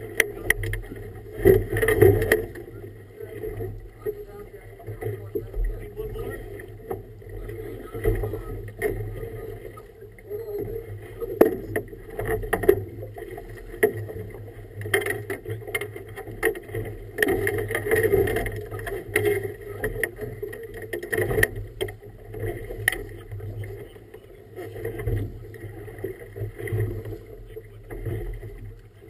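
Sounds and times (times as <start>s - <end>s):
water splashing against boat hull: 0.0s - 29.0s.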